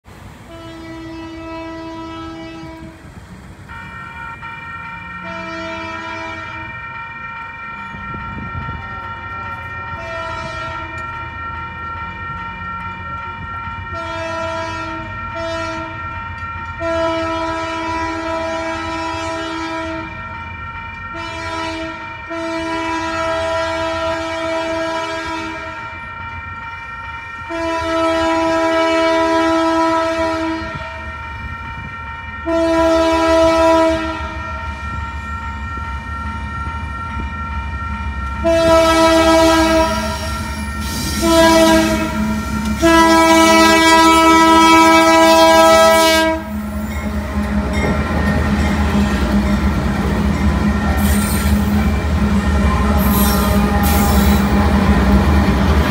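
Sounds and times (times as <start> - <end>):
locomotive rumble: 0.1 - 55.9
train horn blasts: 0.4 - 3.1, 3.7 - 6.9, 9.9 - 11.2, 13.8 - 20.3, 21.1 - 35.1, 38.2 - 55.9
crossing bell ringing: 1.2 - 55.9.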